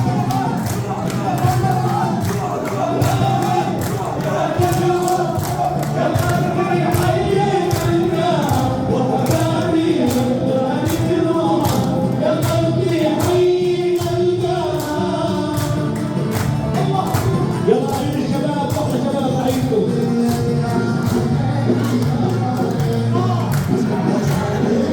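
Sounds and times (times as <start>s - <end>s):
men singing in chorus: 0.0s - 24.9s
steady percussion beat: 0.0s - 24.9s.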